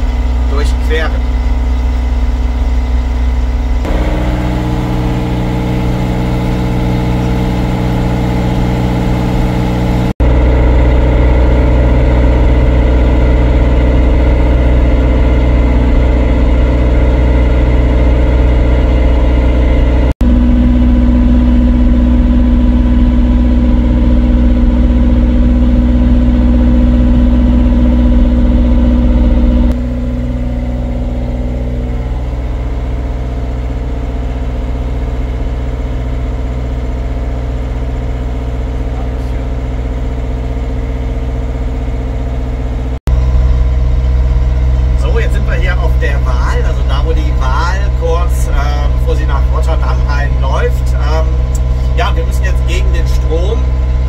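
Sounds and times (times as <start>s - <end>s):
motorboat engine drone: 0.0s - 54.0s.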